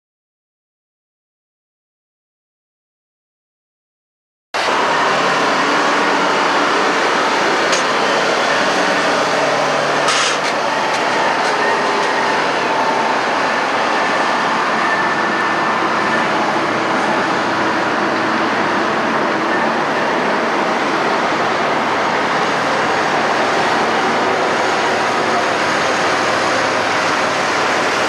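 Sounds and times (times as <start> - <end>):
heavy machinery running: 4.6 - 28.0.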